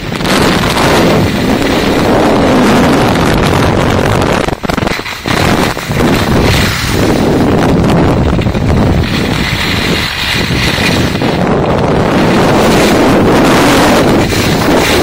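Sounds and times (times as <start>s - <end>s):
skis scraping on snow: 0.0s - 15.0s
wind buffeting microphone: 0.0s - 15.0s.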